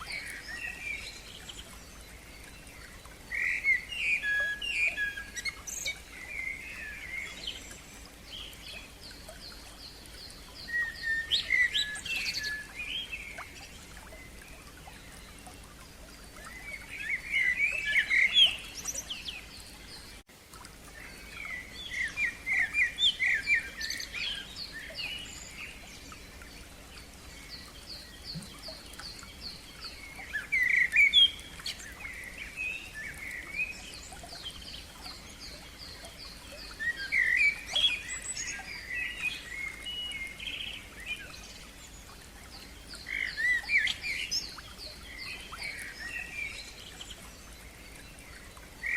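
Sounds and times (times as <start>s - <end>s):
songbirds warbling: 0.0s - 48.9s.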